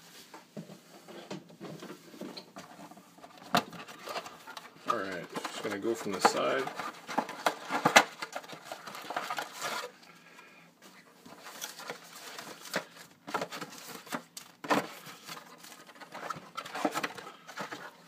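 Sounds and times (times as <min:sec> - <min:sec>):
foil packs crinkling: 0:03.2 - 0:18.0.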